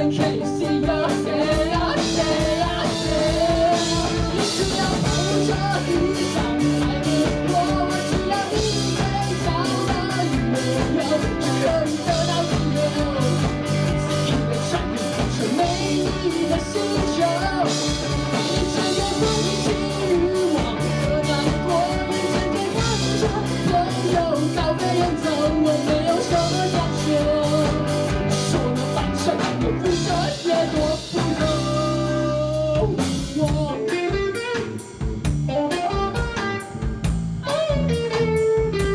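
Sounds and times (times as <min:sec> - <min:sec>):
person singing: 0:00.0 - 0:34.8
bass guitar: 0:00.0 - 0:38.9
drum kit beat: 0:00.0 - 0:38.9
electric guitar: 0:00.0 - 0:38.9.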